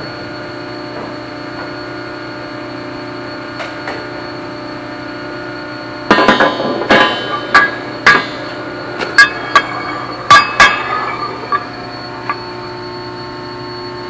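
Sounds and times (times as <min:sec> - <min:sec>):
steady shop hum: 0:00.0 - 0:14.0.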